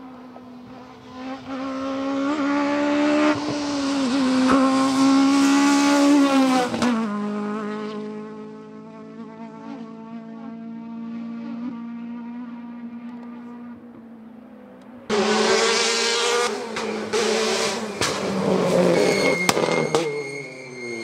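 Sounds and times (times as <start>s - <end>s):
rally car engine at high revs: 0.0s - 14.3s, 14.9s - 21.0s.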